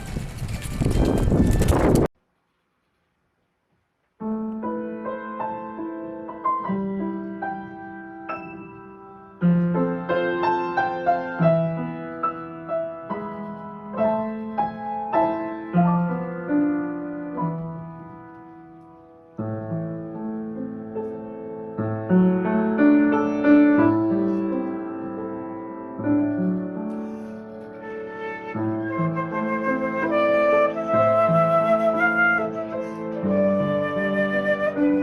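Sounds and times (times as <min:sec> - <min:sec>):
slow gentle piano piece: 0:04.2 - 0:35.0.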